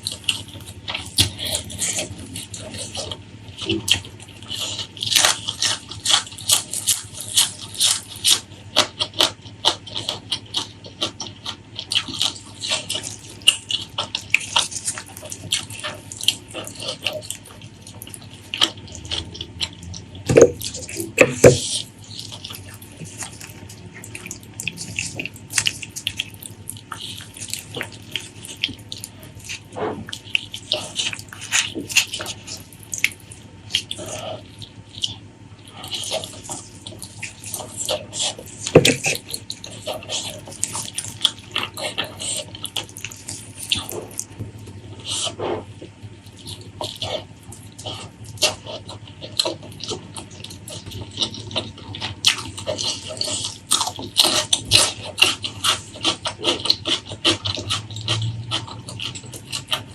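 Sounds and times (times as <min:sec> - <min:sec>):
wet chewing sounds: 0:00.0 - 0:59.9.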